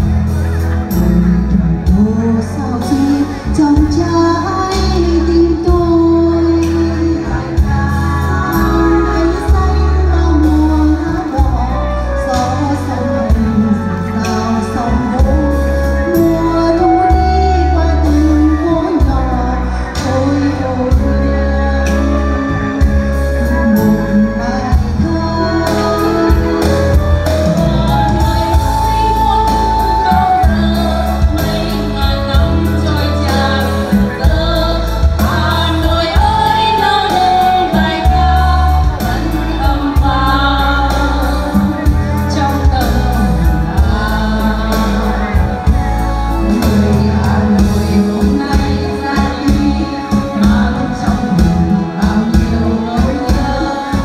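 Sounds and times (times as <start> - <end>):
heavy bass line: 0.0 - 54.0
person singing over backing track: 0.0 - 54.0.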